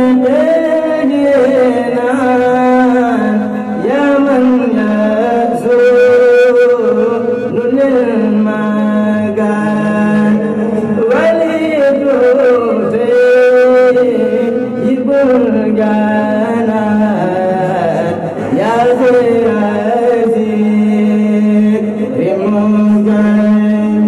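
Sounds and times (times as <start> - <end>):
man singing a chant: 0.0 - 24.0.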